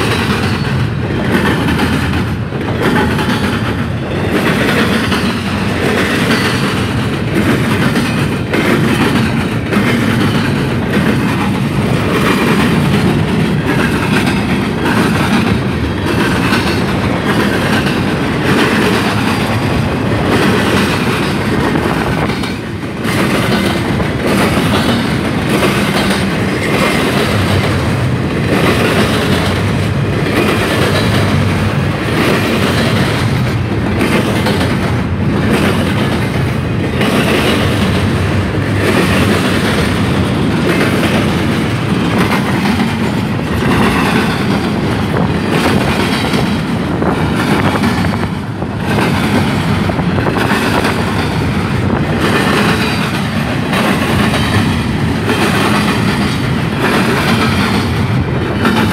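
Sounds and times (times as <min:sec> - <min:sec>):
freight train rumbling past: 0:00.0 - 0:58.9
wheels clacking over rail joints: 0:00.0 - 0:58.9.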